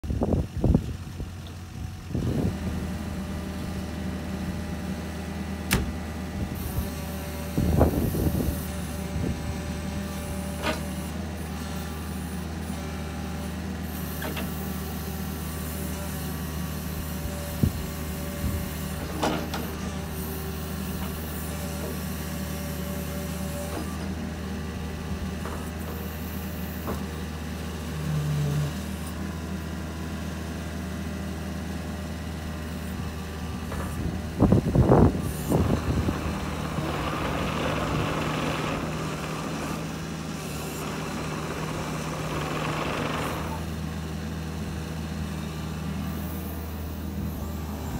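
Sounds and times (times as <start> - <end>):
excavator diesel engine running: 0.0 - 47.9
excavator travelling on tracks: 0.0 - 47.9.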